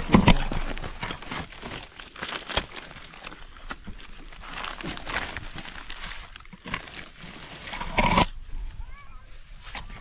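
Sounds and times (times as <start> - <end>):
dry leaves crinkling and crunching: 0.0 - 10.0.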